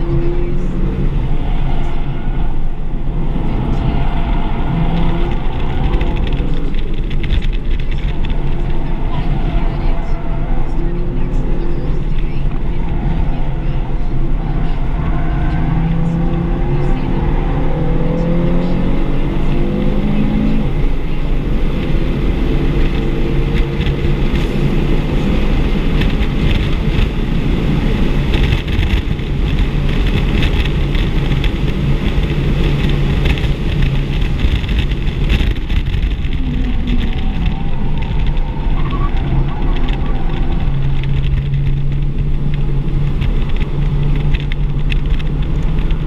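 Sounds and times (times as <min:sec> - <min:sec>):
car engine accelerating hard: 0:00.0 - 0:46.0
wind and road noise: 0:00.0 - 0:46.0.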